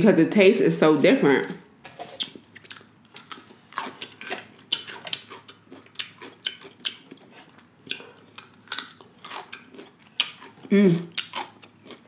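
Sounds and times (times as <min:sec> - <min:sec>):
crisp crunching of cucumber: 0:02.0 - 0:12.0.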